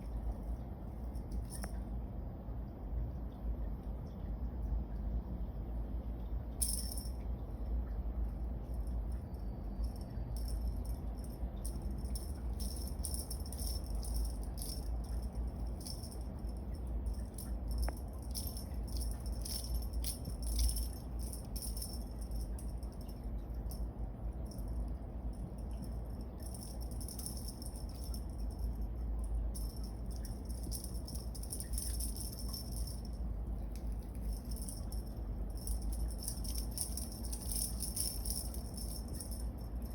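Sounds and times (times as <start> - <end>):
steady low hum: 0.0 - 39.9
small bells jingling: 1.0 - 1.8, 6.6 - 7.2, 8.6 - 39.9.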